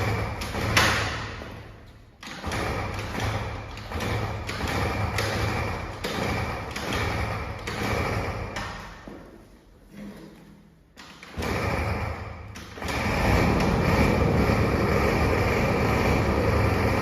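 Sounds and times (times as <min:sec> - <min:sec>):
scooter engine revving: 0:00.0 - 0:08.6, 0:11.3 - 0:17.0.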